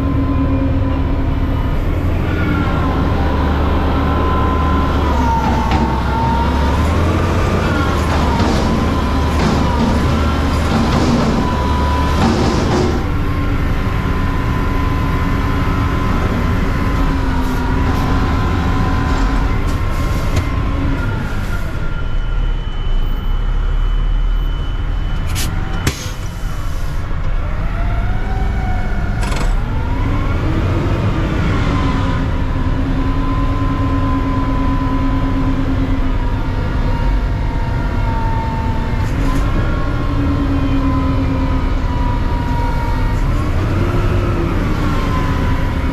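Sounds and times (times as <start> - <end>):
garbage truck engine running: 0.0 - 27.6, 29.2 - 45.9.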